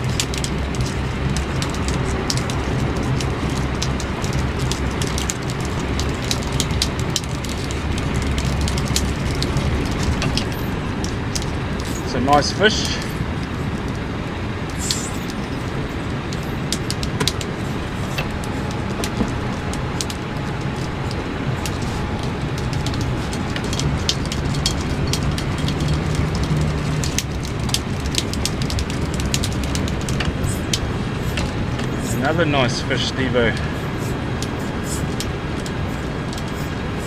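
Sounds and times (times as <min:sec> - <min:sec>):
sharp ticks and crackles: 0:00.0 - 0:37.0
wind: 0:00.0 - 0:37.0.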